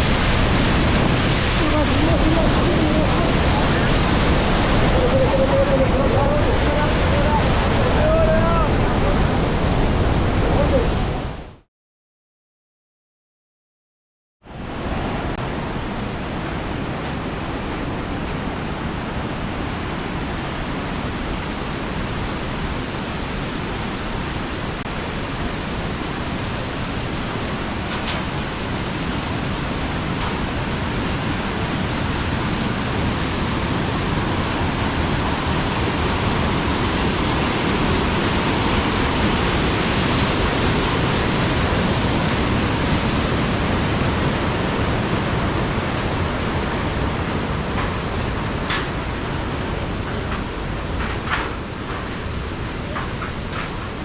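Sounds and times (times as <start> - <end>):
heavily falling water: 0.0 - 11.4, 14.5 - 54.0.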